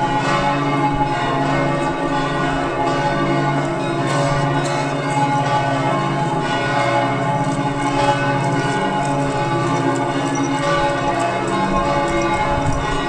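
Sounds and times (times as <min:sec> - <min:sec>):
church bells pealing: 0:00.0 - 0:13.0.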